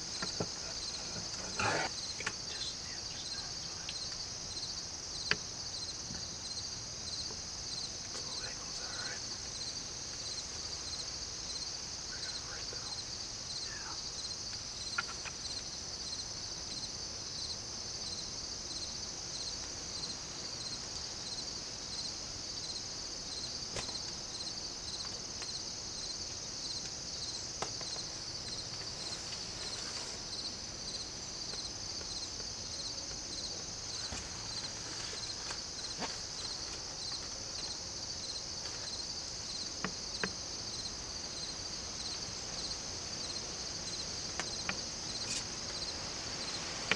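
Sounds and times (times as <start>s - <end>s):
crickets and insects chirring: 0.0s - 46.9s.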